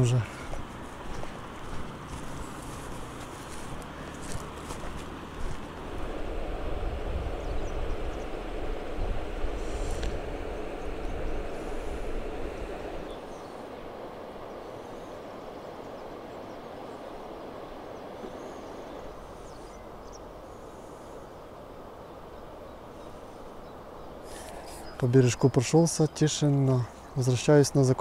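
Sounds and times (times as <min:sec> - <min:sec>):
steady rushing outdoor noise: 0:00.0 - 0:28.0.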